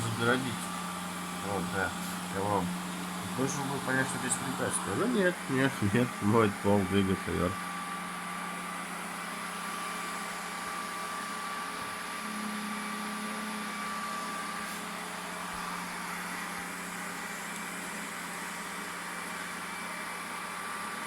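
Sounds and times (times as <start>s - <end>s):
robot vacuum humming: 0.0s - 21.0s.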